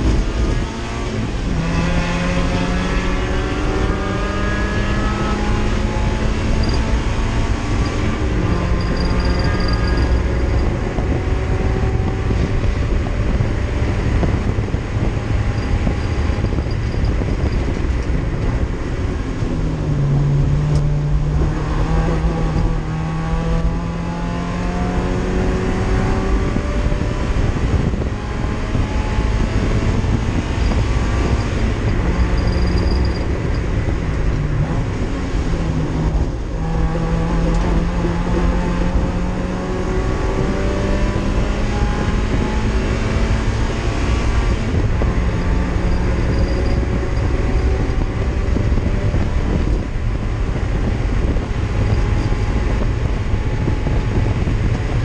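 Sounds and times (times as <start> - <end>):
race car engine accelerating: 0.0 - 55.0
road and wind noise: 0.0 - 55.0.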